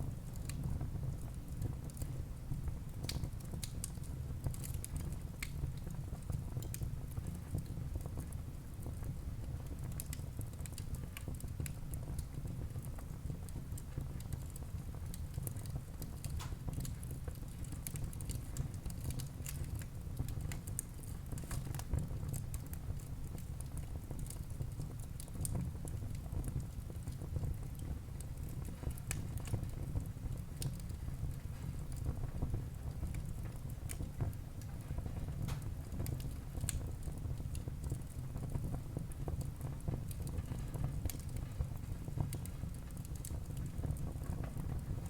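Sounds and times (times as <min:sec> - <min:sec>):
fire low rumble: 0:00.0 - 0:45.0
burning logs crackling and popping: 0:00.1 - 0:45.0.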